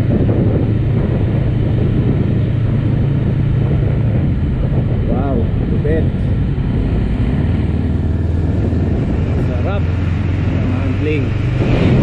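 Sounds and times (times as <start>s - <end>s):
motorcycle engine cruising: 0.0s - 12.0s
road and wind noise: 0.0s - 12.0s.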